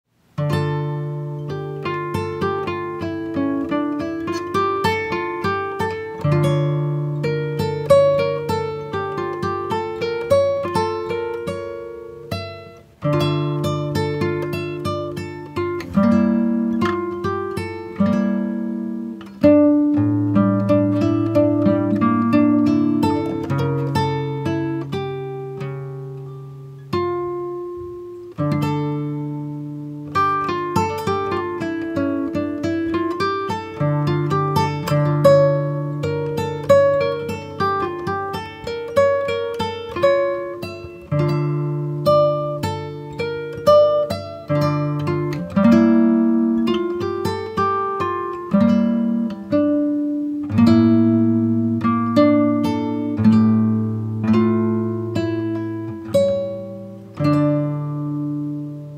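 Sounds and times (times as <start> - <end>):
plucked acoustic guitar: 0.3 - 58.9.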